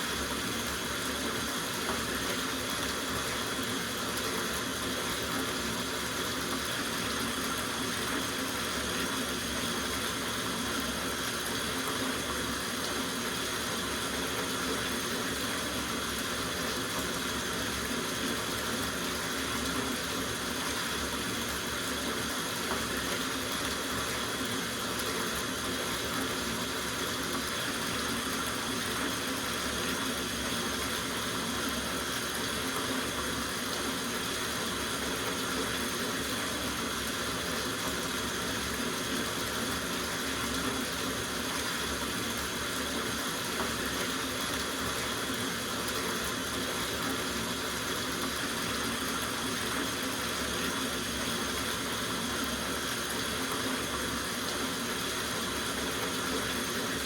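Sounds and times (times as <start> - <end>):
tap water running into bathtub: 0.0 - 57.0.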